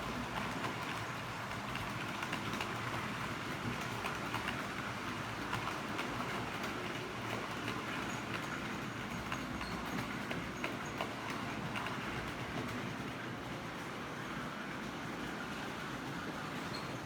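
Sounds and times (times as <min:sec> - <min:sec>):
wheels clicking on rails: 0:00.0 - 0:17.0.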